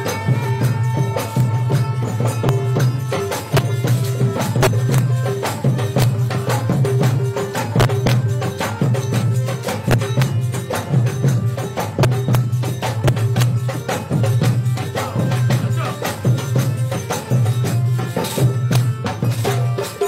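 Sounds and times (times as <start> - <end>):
hand drums: 0.0 - 20.0
harmonium chords: 0.0 - 20.0.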